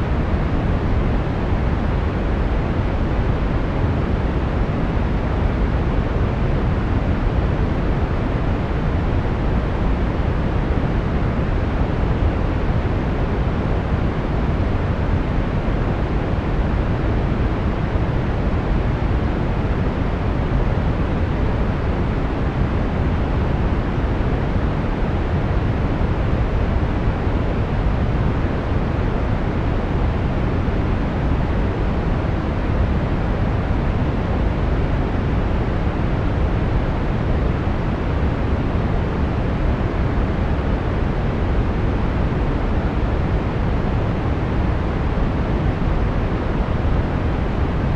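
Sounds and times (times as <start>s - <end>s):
brown noise: 0.0s - 47.9s.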